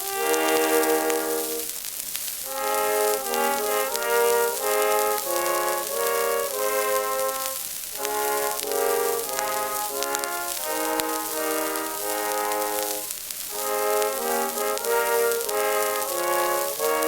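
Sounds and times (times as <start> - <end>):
brass ensemble chords: 0.0 - 1.7, 2.4 - 17.0
record surface crackle and hiss: 0.0 - 17.0.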